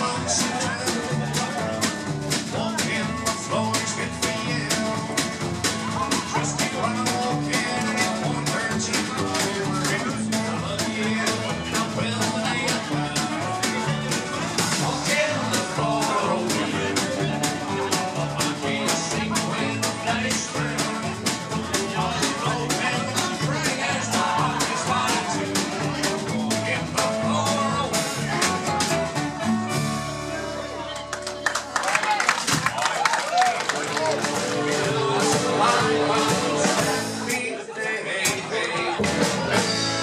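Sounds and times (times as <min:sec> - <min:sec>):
country band playing: 0:00.0 - 0:40.0.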